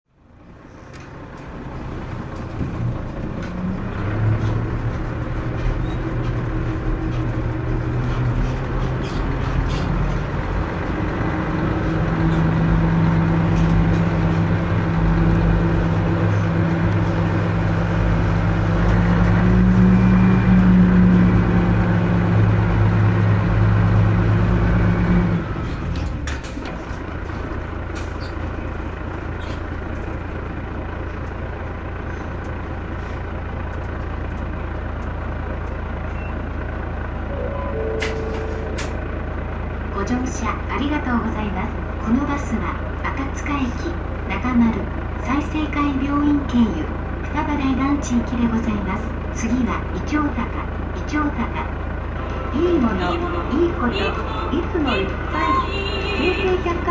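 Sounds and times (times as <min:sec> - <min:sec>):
bus engine running: 0:00.1 - 0:56.9.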